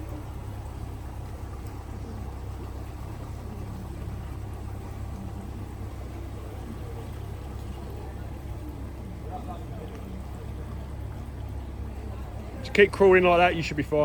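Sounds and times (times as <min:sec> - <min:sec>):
vehicle engine low rumble: 0:00.0 - 0:14.0.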